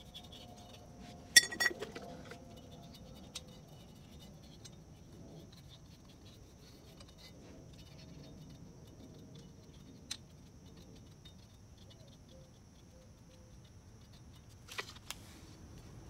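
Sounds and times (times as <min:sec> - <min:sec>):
brush scratching on metal: 0:00.0 - 0:14.7.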